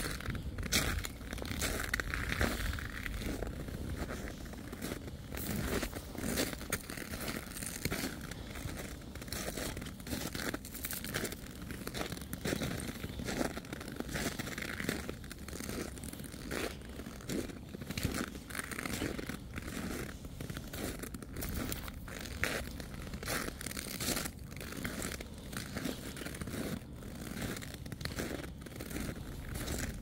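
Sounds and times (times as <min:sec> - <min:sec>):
footsteps crunching in snow: 0:00.0 - 0:30.0.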